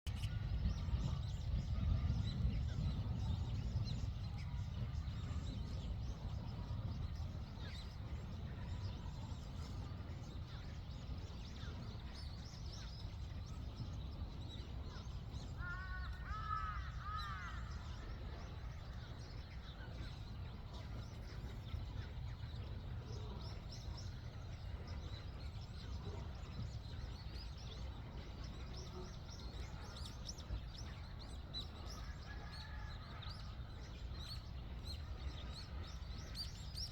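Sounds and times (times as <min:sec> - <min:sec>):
faint bird chirps: 0:00.1 - 0:36.9
steady low rumble: 0:00.1 - 0:36.9.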